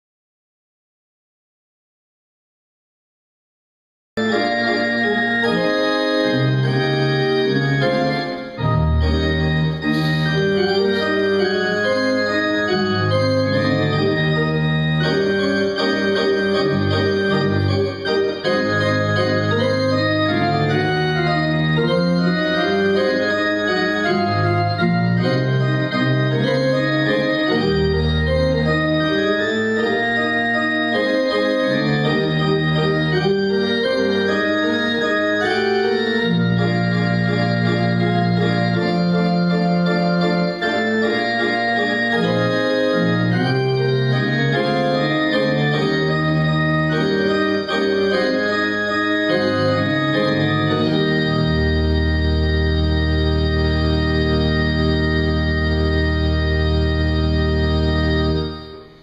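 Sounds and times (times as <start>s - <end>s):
bass line: 4.2s - 58.7s
electronic keyboard organ chords: 4.2s - 59.0s.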